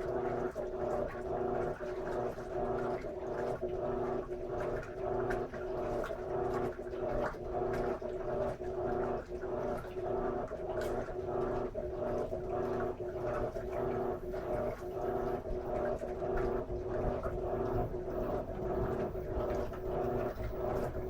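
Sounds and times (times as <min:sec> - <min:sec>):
washing machine churning: 0:00.0 - 0:21.0
washing machine motor hum: 0:00.0 - 0:21.0.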